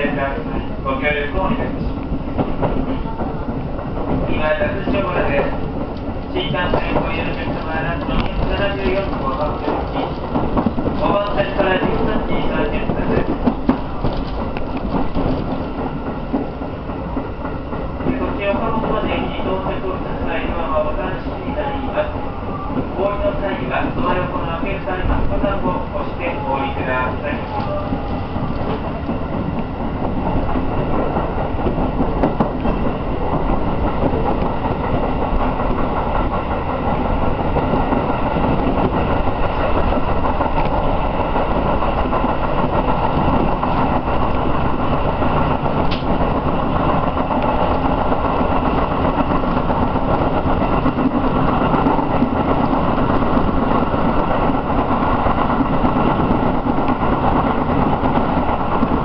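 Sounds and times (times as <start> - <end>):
steel wheels on rails: 0.0 - 59.0
electric train running: 1.2 - 59.0.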